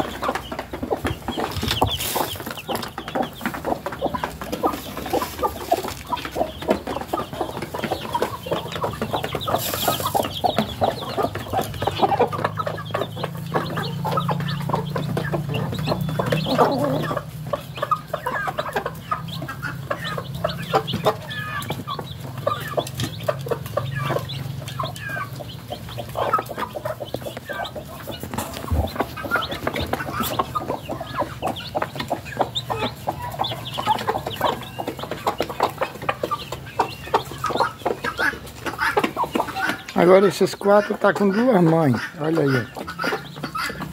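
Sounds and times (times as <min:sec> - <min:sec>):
chicks peeping: 0:00.0 - 0:43.9
hen clucking: 0:00.0 - 0:43.9.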